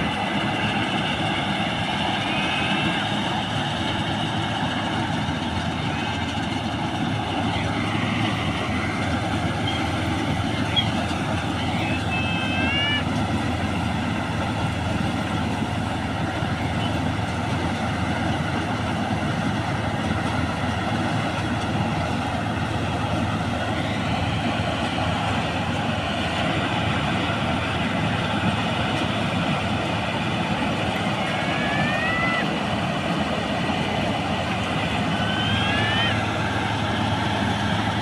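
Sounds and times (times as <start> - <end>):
combine harvester running: 0.0 - 38.0.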